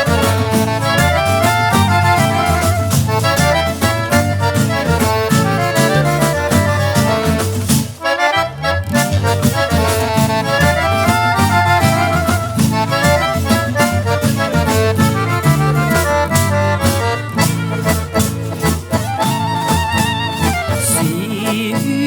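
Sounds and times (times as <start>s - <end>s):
bass and drums beat: 0.0s - 22.0s
fast accordion melody: 0.0s - 22.0s.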